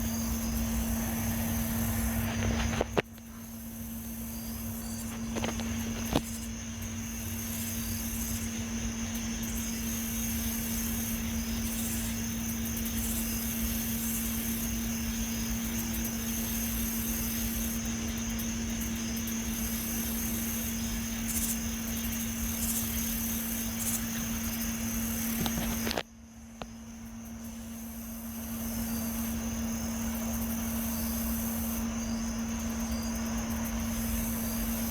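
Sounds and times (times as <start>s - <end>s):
low humming drone: 0.0s - 34.9s.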